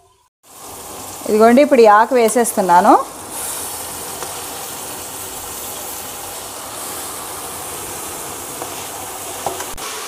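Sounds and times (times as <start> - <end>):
oil sizzling in a pot: 0.0 - 10.0.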